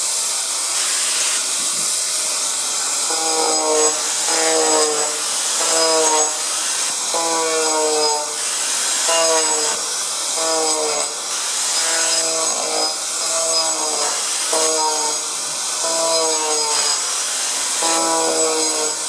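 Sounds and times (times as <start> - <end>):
power tool grinding wood floor: 0.0 - 19.0.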